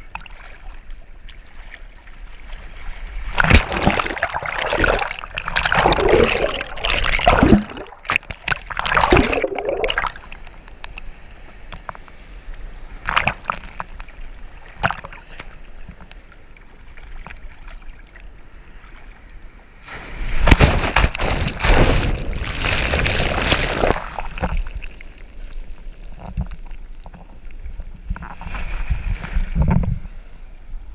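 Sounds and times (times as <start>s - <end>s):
surf sloshing and splashing: 0.1s - 10.7s, 12.9s - 30.9s.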